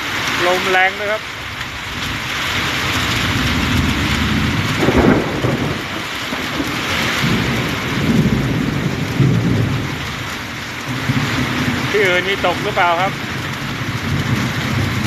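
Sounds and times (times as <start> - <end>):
heavy rain pouring: 0.0 - 15.0
low rumbling surges: 0.0 - 15.0
strong gusting wind: 0.0 - 15.0.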